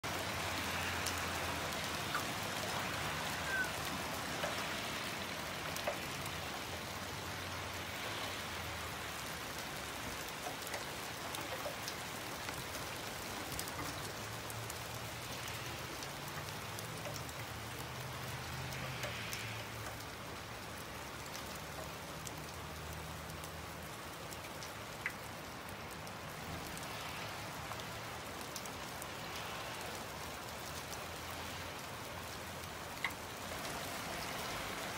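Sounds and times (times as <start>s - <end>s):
rain on pavement and grass: 0.0s - 34.9s.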